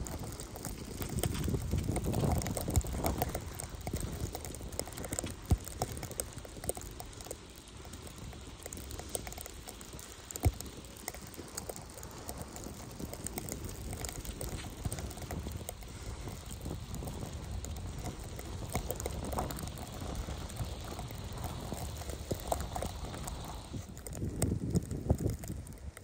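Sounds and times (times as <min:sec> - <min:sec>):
bicycle clicks and rattles: 0:00.0 - 0:26.0
bicycle riding through snow: 0:00.0 - 0:26.0.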